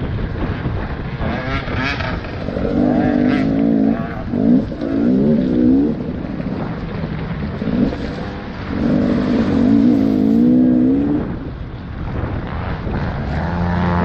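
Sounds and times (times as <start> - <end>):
dirt bike engine revving: 1.1 - 14.0.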